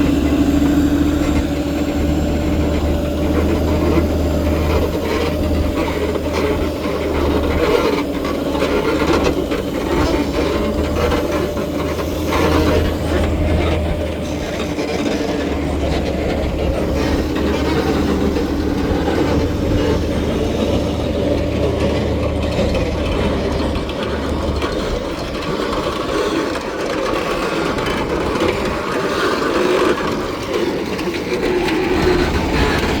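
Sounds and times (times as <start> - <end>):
low engine hum: 0.0 - 33.0
machinery mechanical rattle: 0.0 - 33.0.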